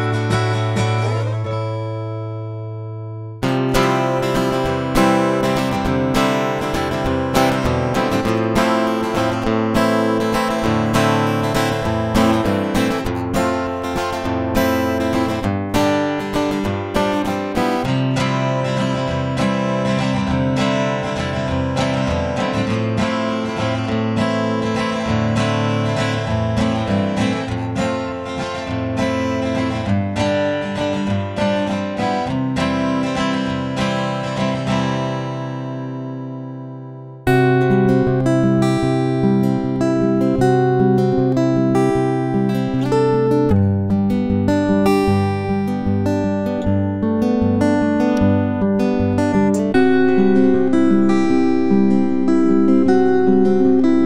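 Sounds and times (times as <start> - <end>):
acoustic guitar plucking: 0.0 - 54.0.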